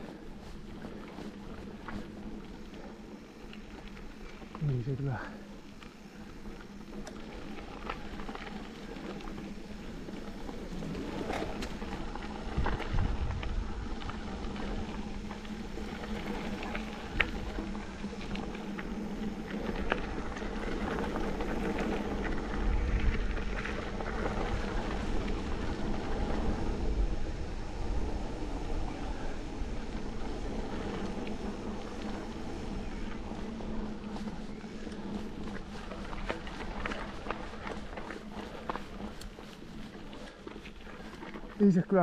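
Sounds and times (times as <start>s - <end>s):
bike tyres on gravel: 0.0s - 42.0s
wind rumbling on microphone: 0.0s - 42.0s.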